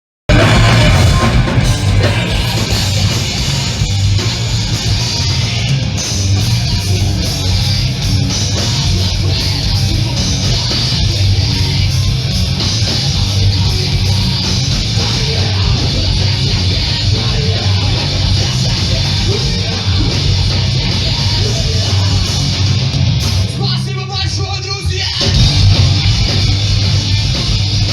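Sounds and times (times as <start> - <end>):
drums: 0.0 - 27.9
bass guitar: 0.3 - 27.9
distorted electric guitars: 0.3 - 27.9.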